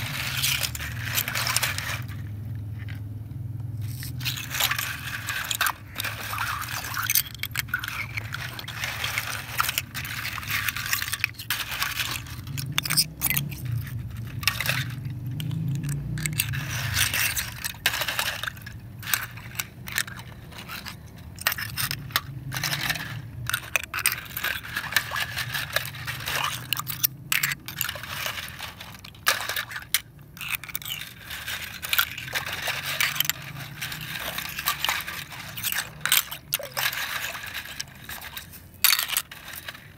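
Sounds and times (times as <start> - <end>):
wet seashells clinking and scraping: 0.0 - 39.9.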